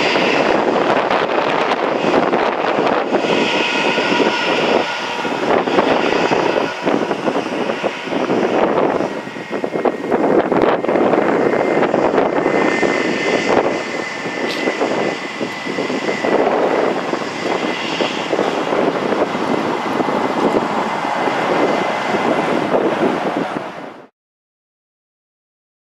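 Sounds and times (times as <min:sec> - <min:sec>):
jet engines rushing with high whine: 0:00.0 - 0:24.1.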